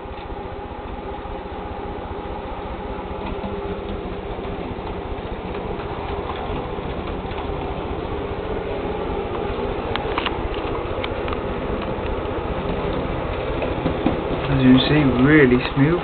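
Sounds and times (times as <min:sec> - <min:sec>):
wheels ticking on rails: 0:00.0 - 0:16.0.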